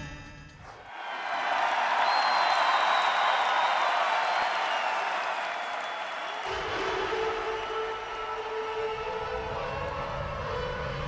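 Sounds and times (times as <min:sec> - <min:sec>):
crowd clapping and cheering: 0:00.7 - 0:11.0.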